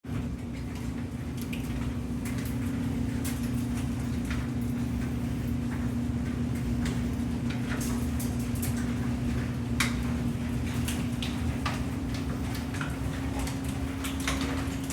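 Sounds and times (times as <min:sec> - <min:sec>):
steady low hum: 0:00.1 - 0:14.9.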